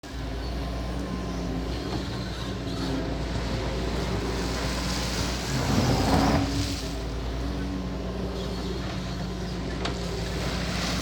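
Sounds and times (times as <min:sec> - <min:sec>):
large vehicle engine humming: 0:00.0 - 0:11.0.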